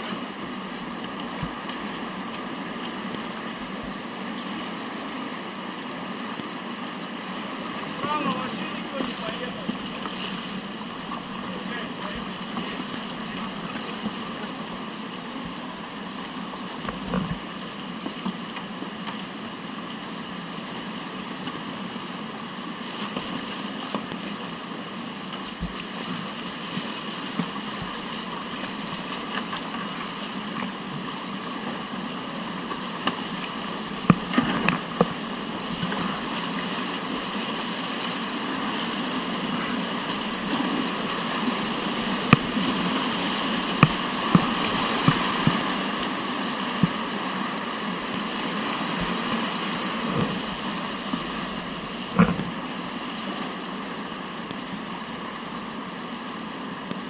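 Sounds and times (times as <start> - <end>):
rushing whitewater: 0.0 - 57.0.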